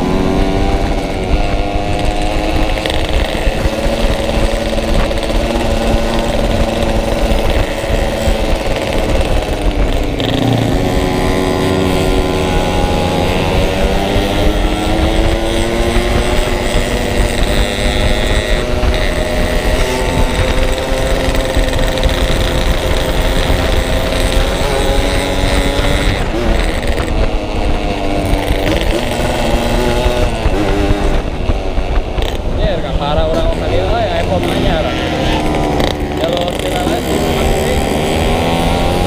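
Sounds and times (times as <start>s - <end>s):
two-stroke motorcycle engine cruising: 0.0s - 39.0s
wind rumble on microphone: 0.0s - 39.0s.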